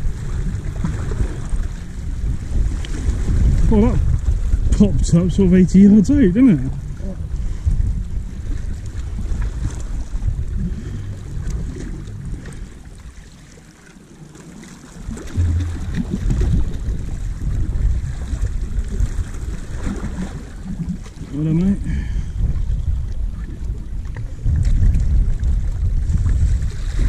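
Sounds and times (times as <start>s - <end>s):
wind buffeting microphone: 0.0s - 13.6s, 14.9s - 27.0s.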